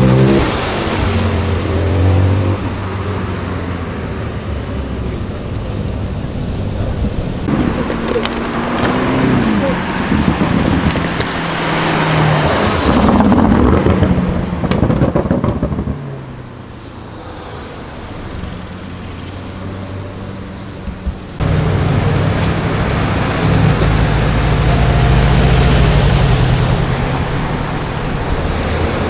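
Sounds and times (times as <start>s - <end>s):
sports car engines revving: 0.0s - 29.0s.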